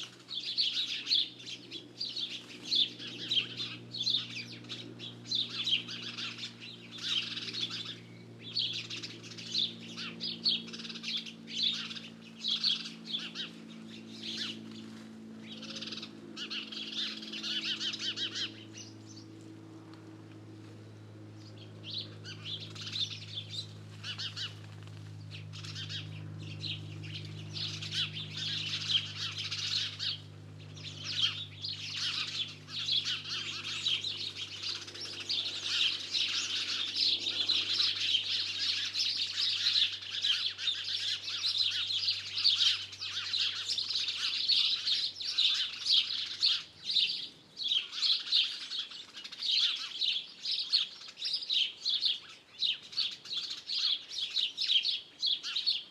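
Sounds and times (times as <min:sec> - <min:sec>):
low steady hum: 0:00.0 - 0:49.8
songbirds chirping and trilling: 0:00.0 - 0:55.9.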